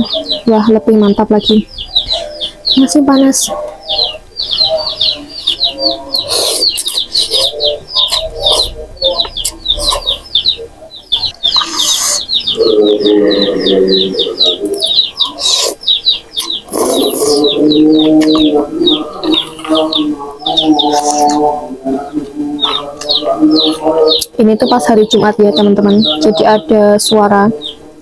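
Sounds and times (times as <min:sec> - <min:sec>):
distant voice over loudspeaker: 0:00.0 - 0:28.0
small bird chirping: 0:00.0 - 0:28.0.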